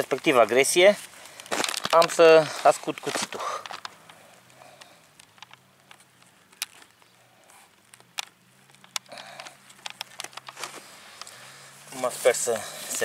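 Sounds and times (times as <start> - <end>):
light clicks and rustles: 0.0 - 13.0.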